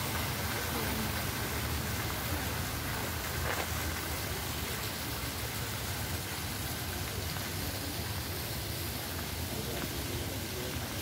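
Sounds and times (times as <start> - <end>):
fountain splashing into basin: 0.0 - 11.0.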